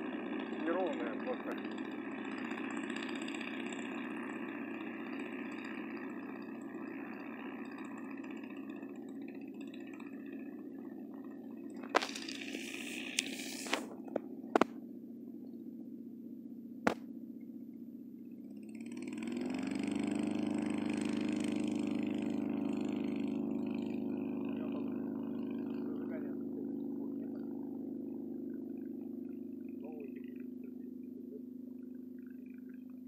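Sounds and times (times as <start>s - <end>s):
light plane engine and propeller: 0.0s - 33.0s.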